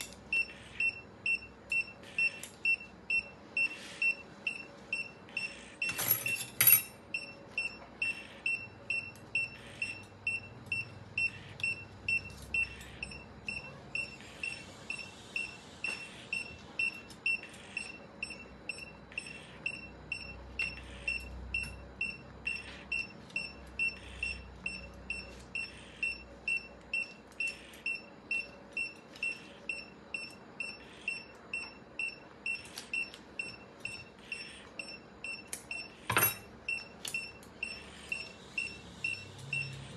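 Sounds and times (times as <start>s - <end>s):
patient monitor beeping: 0.0s - 39.9s.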